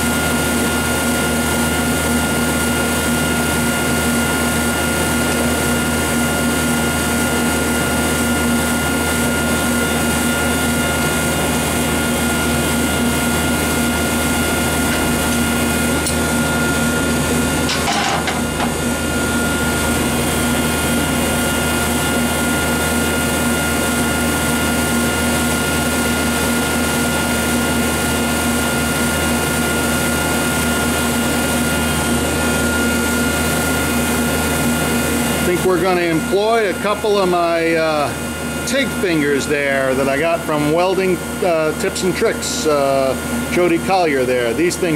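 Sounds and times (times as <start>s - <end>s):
machine drone: 0.0s - 44.9s.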